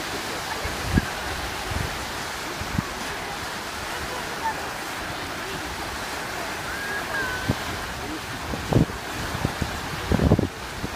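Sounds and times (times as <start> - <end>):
waves rushing: 0.0 - 10.9
wind: 0.0 - 10.9.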